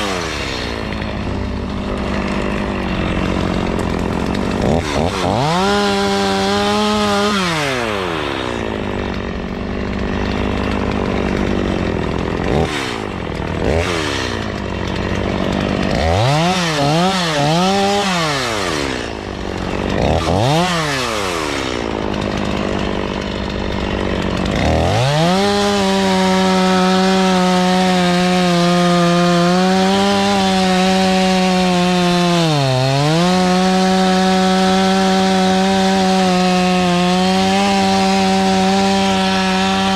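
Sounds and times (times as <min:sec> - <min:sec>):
chainsaw cutting into tree: 0:00.0 - 0:39.9
chainsaw revving: 0:00.0 - 0:39.9.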